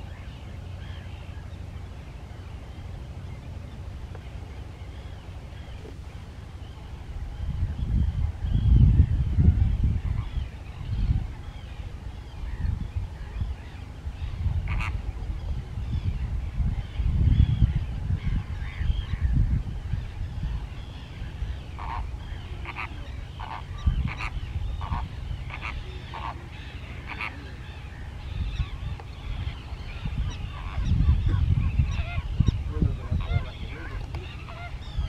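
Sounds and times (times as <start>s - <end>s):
faint bird chirping: 0.0s - 35.0s.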